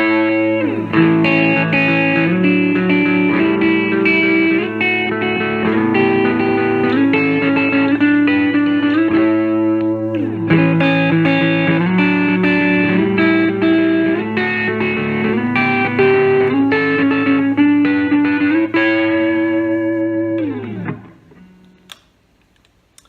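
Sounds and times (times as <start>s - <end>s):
electric guitar melody: 0.0s - 22.0s.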